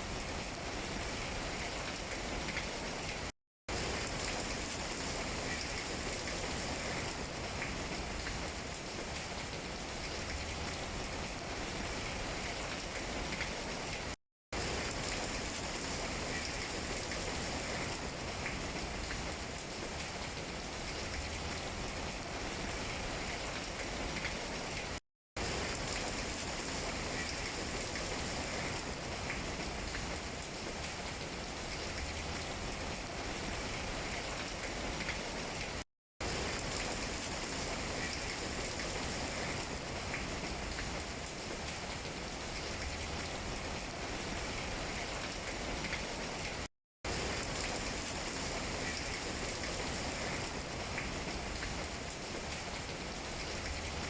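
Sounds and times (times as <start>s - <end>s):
rain pattering on leaves: 0.3s - 54.0s.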